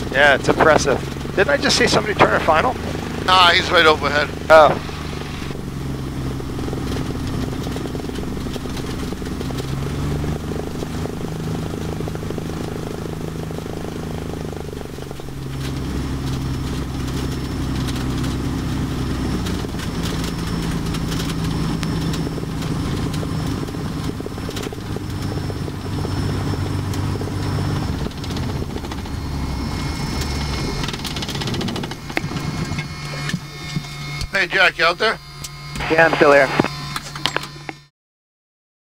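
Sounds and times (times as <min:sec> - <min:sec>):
propeller aircraft engine running: 0:00.0 - 0:37.9.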